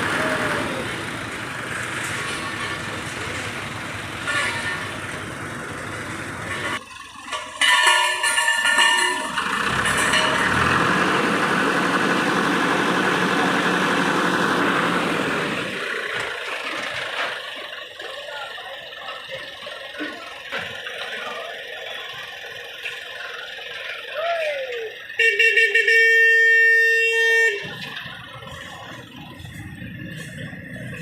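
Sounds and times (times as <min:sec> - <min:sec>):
heavy vehicle engine: 0:00.0 - 0:31.0.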